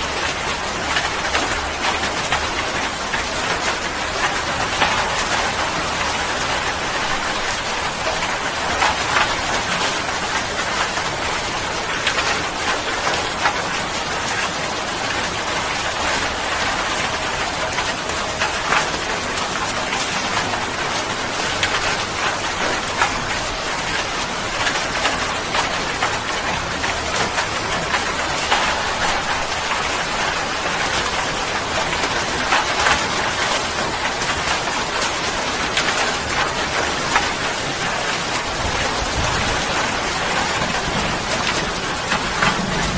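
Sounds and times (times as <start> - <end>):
rain pattering on a surface: 0.0 - 42.9.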